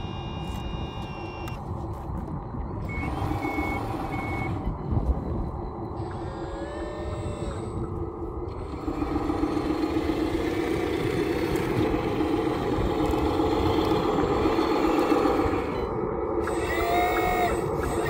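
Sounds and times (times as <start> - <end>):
model truck mechanical running: 0.0 - 18.0.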